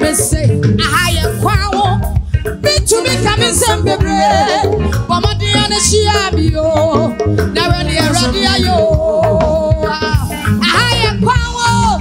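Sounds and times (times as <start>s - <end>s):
upbeat live band music: 0.0s - 12.0s
woman singing into microphone: 0.0s - 12.0s.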